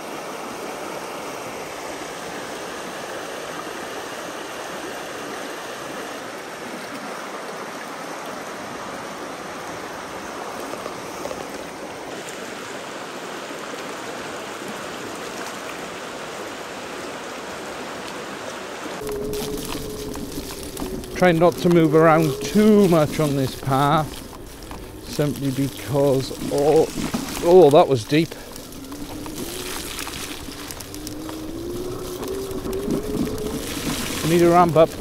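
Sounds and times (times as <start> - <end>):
stream flowing over rocks: 0.0 - 35.0.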